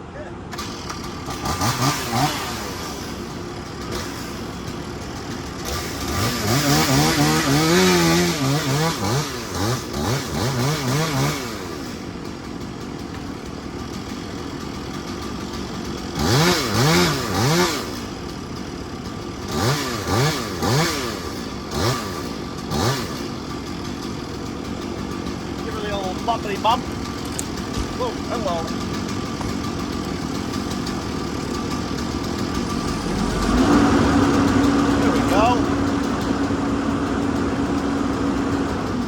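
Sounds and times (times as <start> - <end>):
excavator engine and hydraulics: 0.0 - 39.0.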